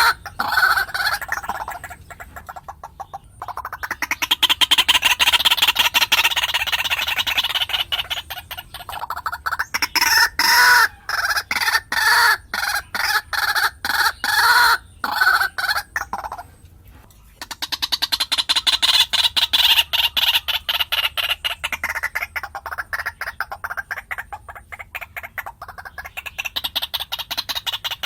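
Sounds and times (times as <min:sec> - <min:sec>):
bird calling harshly: 0:00.0 - 0:16.6, 0:17.3 - 0:28.0
rapid clucking bird notes: 0:00.0 - 0:28.0.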